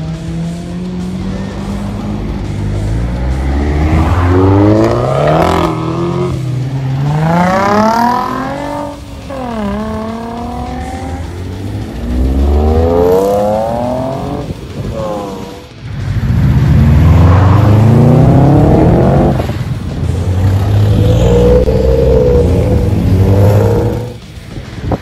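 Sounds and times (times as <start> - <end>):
cars accelerating hard: 0.0 - 24.3.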